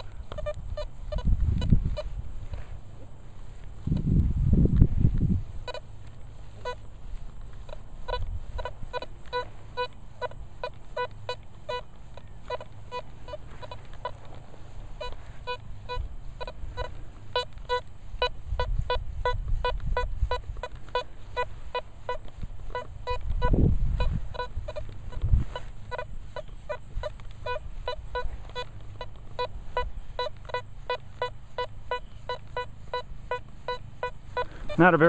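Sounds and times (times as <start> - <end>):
metal detector short beeps: 0.0 - 2.2, 5.6 - 6.0, 6.6 - 14.2, 15.0 - 35.0.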